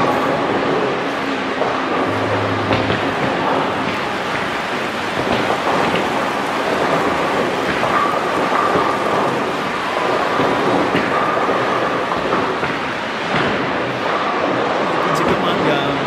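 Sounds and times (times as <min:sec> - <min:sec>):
bowling balls rolling: 0:00.0 - 0:15.7.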